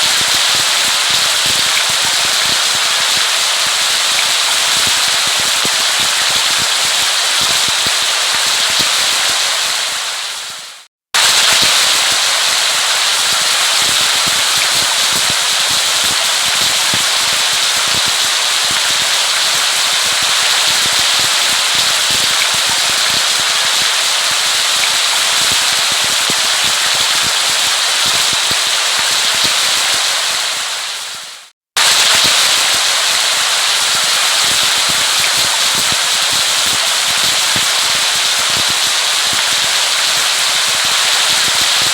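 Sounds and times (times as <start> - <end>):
steady rain pattering: 0.0 - 41.9.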